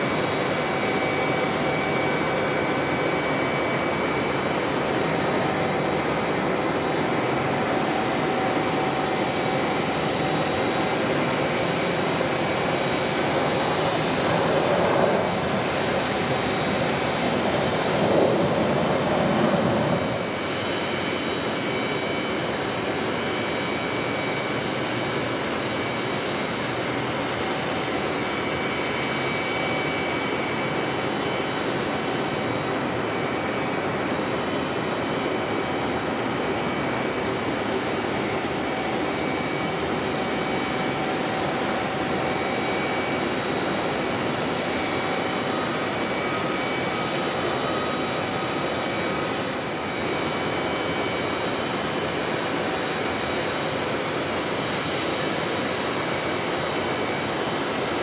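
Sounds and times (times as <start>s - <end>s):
high engine whine: 0.0s - 58.0s
jet airliner on approach: 0.0s - 58.0s
jet engines rushing: 0.0s - 58.0s.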